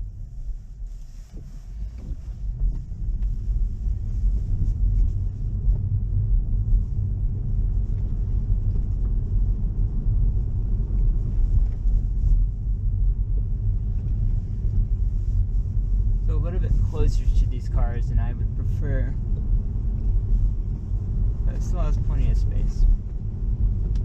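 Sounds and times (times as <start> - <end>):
road rumble inside car: 0.0 - 24.0.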